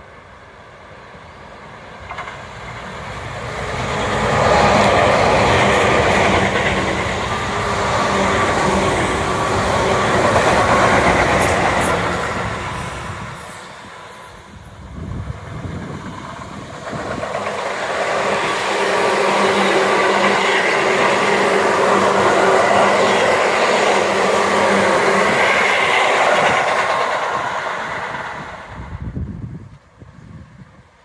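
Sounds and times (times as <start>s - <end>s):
electric train passing: 0.0s - 31.0s.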